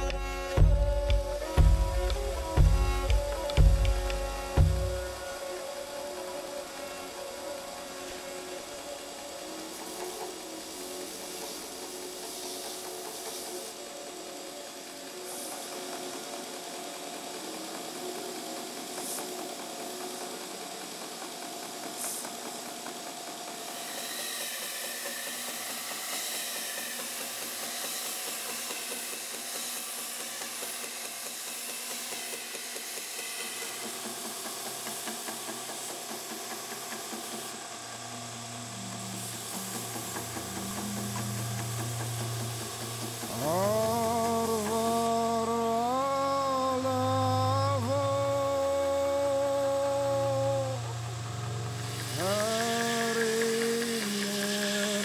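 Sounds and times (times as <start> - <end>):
wood sanding on belt: 0.0 - 50.8, 51.8 - 55.0
belt grinder running: 0.0 - 55.0.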